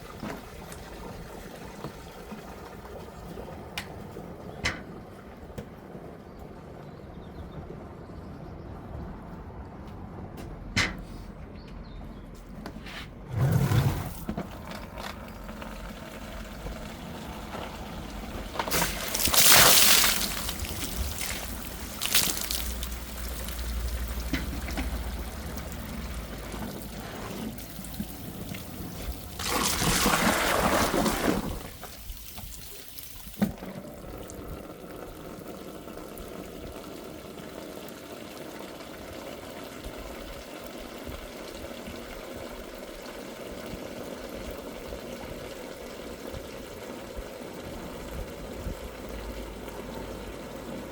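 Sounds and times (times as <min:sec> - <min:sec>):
water pouring into a drain: 0:00.0 - 0:03.7, 0:13.6 - 0:50.9.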